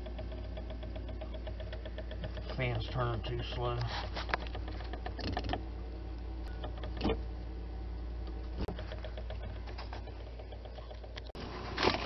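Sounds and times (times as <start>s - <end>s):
refrigerator humming: 0.0s - 12.0s.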